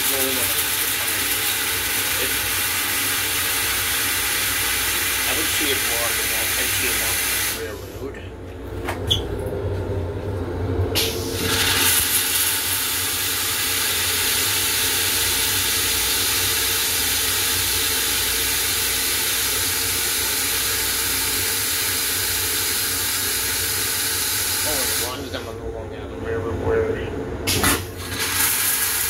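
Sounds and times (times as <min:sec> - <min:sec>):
toilet flushing hiss: 0:00.0 - 0:08.0, 0:10.9 - 0:25.4, 0:27.5 - 0:29.0.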